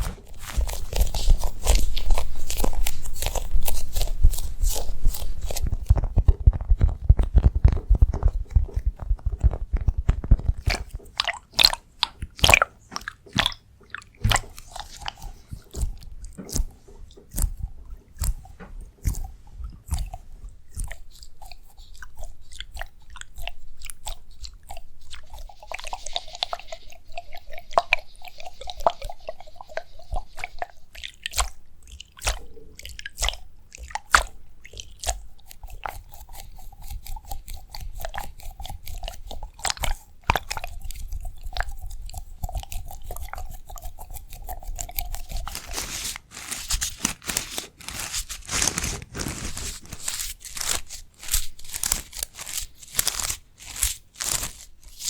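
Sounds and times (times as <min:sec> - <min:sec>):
crackly rubbing and clicking: 0:00.0 - 0:55.0.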